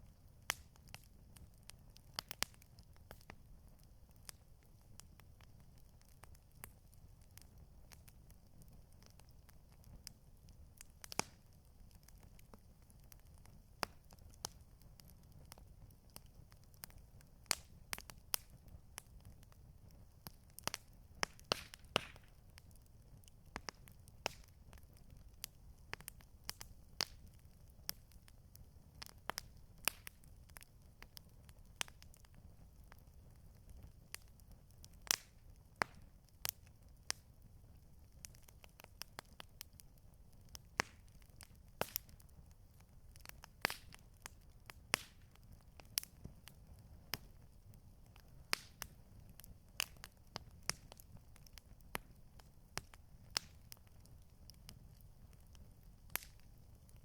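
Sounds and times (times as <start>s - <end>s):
faint low fire rumble: 0.0s - 57.0s
burning wood popping and snapping: 0.4s - 57.0s.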